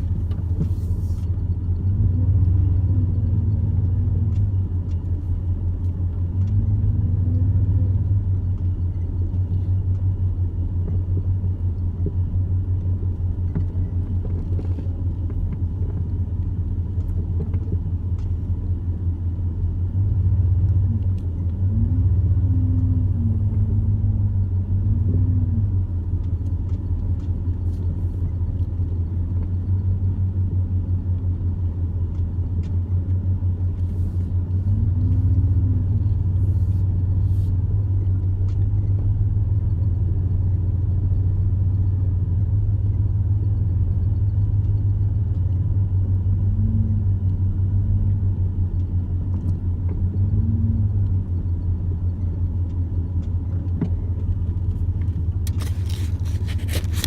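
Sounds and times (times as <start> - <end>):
motor vehicle rumbling: 0.0 - 57.0.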